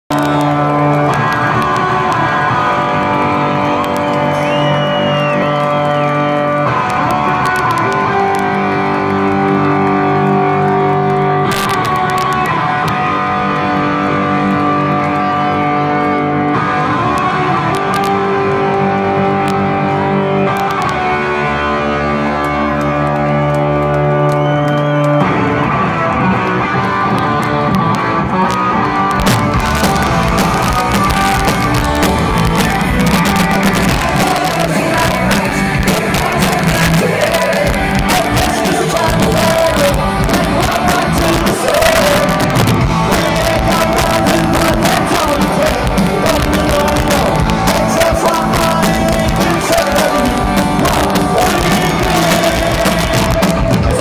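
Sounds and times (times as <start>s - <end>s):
electric guitar chords: 0.1s - 54.0s
live rock band playing: 0.1s - 54.0s.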